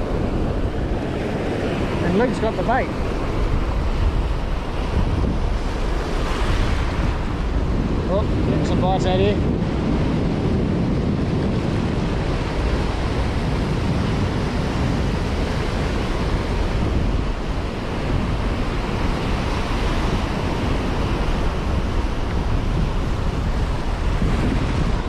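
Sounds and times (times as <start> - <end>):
ocean surf breaking: 0.0 - 25.0
wind on microphone: 0.0 - 25.0.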